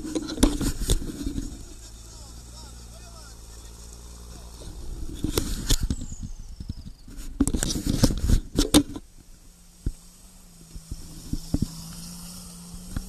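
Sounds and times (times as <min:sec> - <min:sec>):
faint engine hum: 0:00.0 - 0:13.0
wheel clattering through mud: 0:00.0 - 0:13.0.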